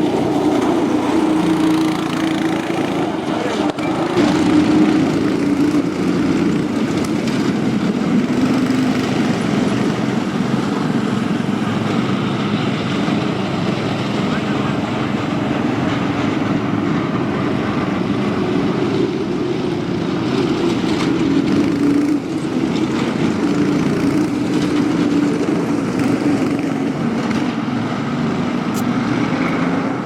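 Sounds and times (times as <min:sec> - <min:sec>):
small engines revving: 0:00.0 - 0:30.0.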